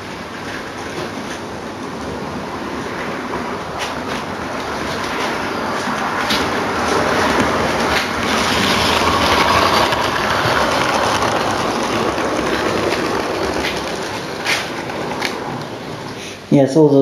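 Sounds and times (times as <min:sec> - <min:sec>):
wheels clicking over rail joints: 0:00.0 - 0:16.2
model train whirring along track: 0:00.0 - 0:16.3.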